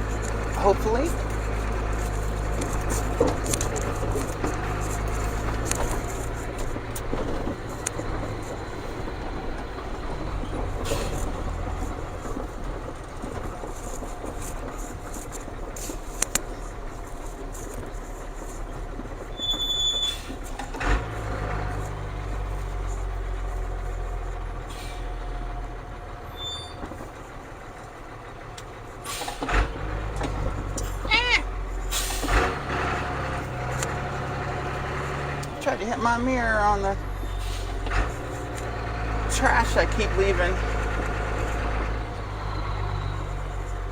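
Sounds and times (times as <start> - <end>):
diesel truck engine droning: 0.0 - 43.9.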